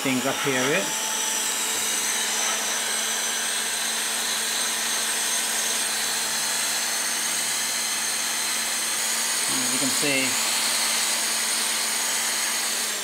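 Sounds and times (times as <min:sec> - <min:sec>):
hot-air blower running: 0:00.0 - 0:13.0.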